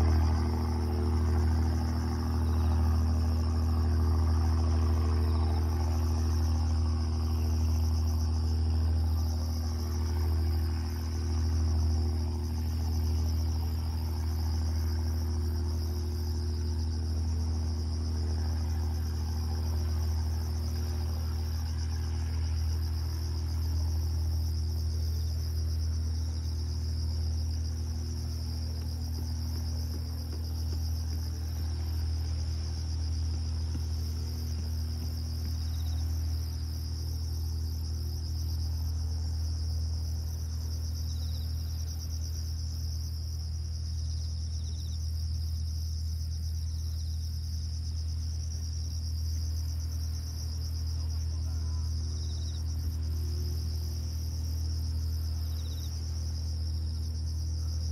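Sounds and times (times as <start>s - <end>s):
insects chirring: 0.0s - 57.9s
steady low hum: 0.0s - 57.9s.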